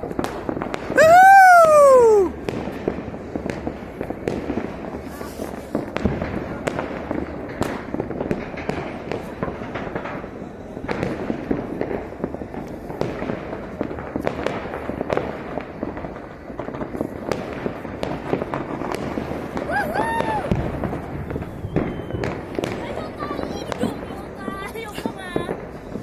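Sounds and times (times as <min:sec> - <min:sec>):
distant fireworks bursts: 0:00.0 - 0:26.0
firecrackers banging: 0:00.0 - 0:26.0.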